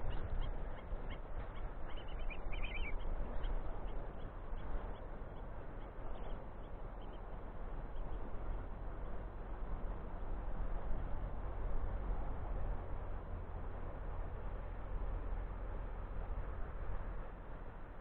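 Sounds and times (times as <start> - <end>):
low outdoor noise: 0.0 - 18.0.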